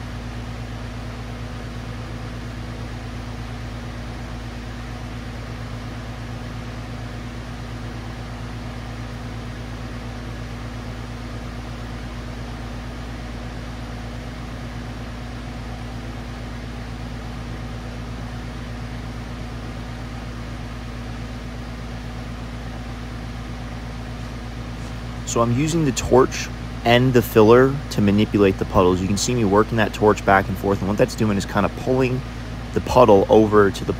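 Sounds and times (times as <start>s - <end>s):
low machine hum: 0.0s - 33.9s.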